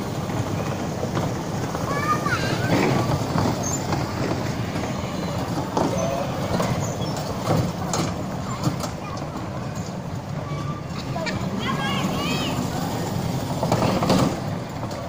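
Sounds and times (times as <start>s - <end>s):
bumper cars rumbling on concrete: 0.0s - 15.0s.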